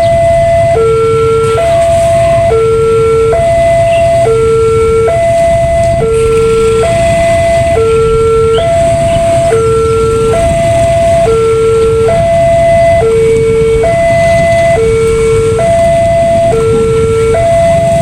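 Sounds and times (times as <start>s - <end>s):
continuous low rumble: 0.0s - 18.0s
level crossing two-tone alarm: 0.0s - 18.0s.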